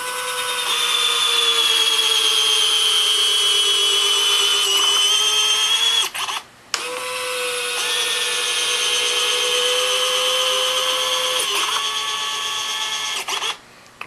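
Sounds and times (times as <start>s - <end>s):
electric gear motor whining: 0.0s - 13.6s.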